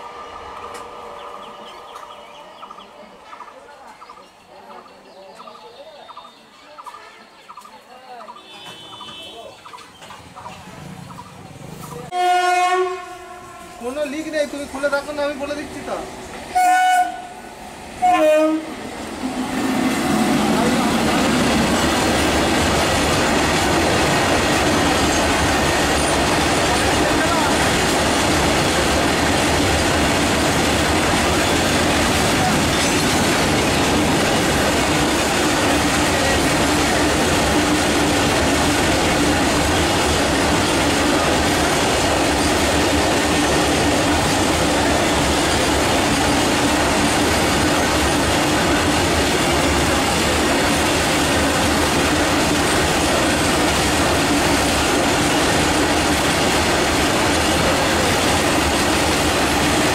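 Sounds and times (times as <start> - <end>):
train wheels rumbling on rails: 0.0 - 5.5, 8.4 - 59.9.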